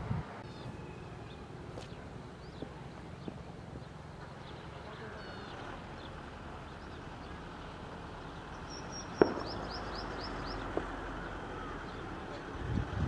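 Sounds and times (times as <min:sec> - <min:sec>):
low outdoor rumble: 0:00.0 - 0:13.0
birds chirping: 0:00.4 - 0:12.6.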